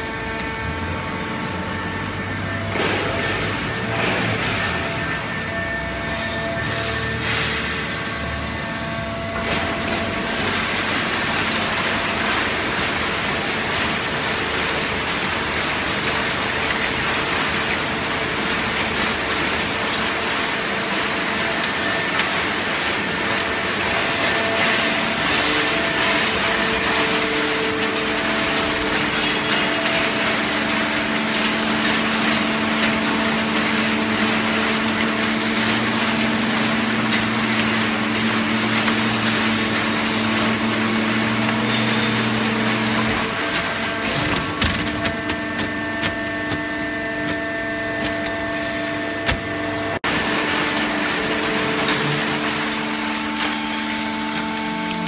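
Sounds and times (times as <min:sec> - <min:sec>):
hydraulic baler hum and hiss: 0:00.0 - 0:55.0.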